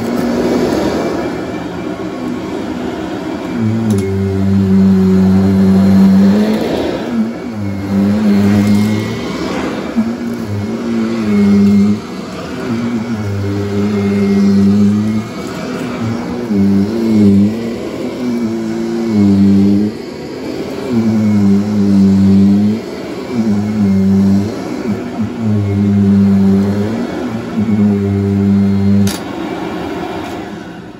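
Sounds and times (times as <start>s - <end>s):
vacuum cleaner running on carpet: 0.0s - 30.9s.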